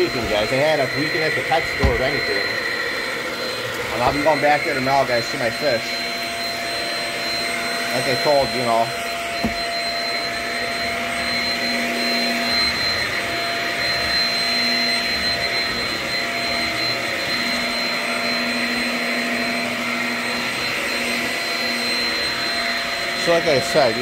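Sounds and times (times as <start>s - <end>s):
stick vacuum running: 0.0s - 24.0s.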